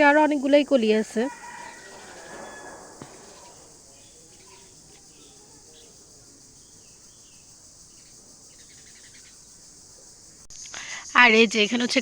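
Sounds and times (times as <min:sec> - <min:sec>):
high-pitched insect drone: 0:00.0 - 0:11.5.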